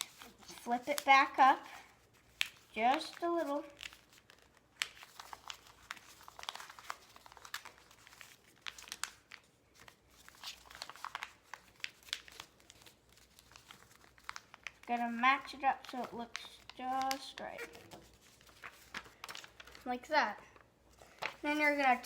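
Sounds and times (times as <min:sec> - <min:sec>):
paper rustling and crinkling: 0:00.0 - 0:22.0.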